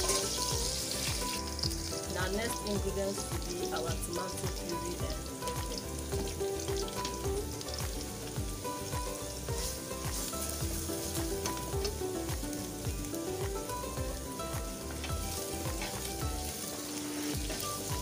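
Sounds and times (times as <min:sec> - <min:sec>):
background music with beat: 0:00.0 - 0:18.0
onions sizzling in oil: 0:00.0 - 0:18.0.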